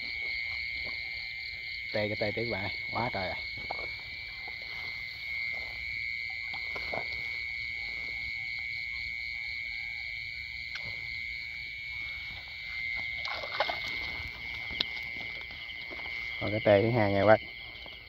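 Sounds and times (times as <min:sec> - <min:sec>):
frogs and insects calling: 0:00.0 - 0:18.0.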